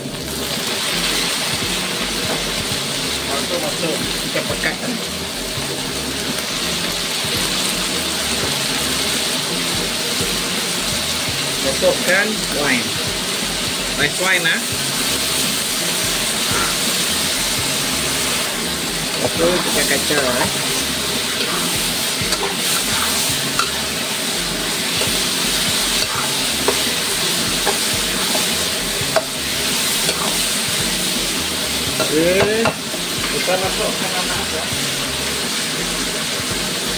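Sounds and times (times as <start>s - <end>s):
food sizzling in a wok: 0.0s - 36.9s.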